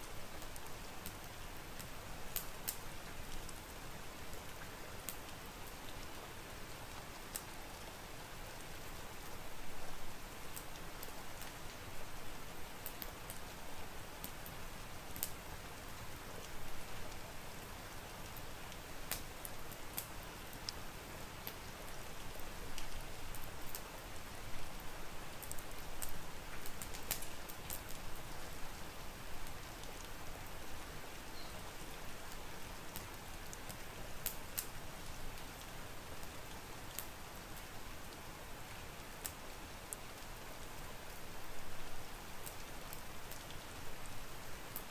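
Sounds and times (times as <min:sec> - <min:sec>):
steady rain hissing: 0:00.0 - 0:44.9
wood fire crackling: 0:00.0 - 0:44.9.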